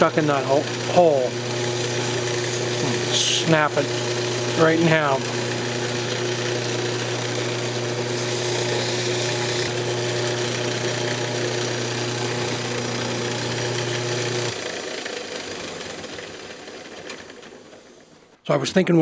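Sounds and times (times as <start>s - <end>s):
paper towel buffing spinning wood: 0.0s - 18.0s
wood lathe motor hum: 0.0s - 18.3s.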